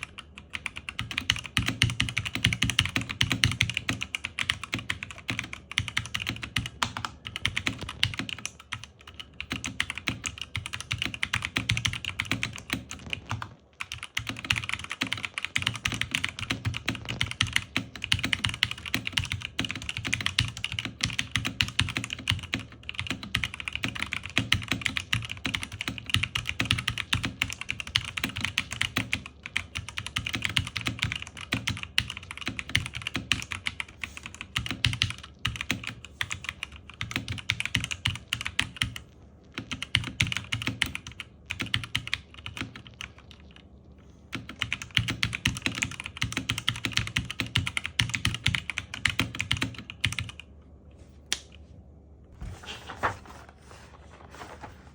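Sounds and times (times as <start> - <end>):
fast typing on mechanical keyboard: 0.0 - 43.6, 44.3 - 50.5.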